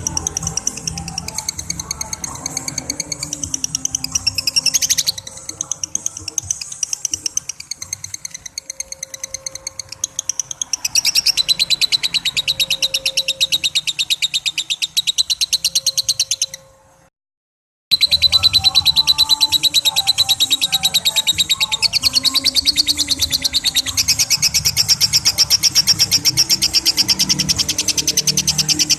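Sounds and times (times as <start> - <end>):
lovebird shrill chatter: 0.0 - 16.7, 17.9 - 28.9.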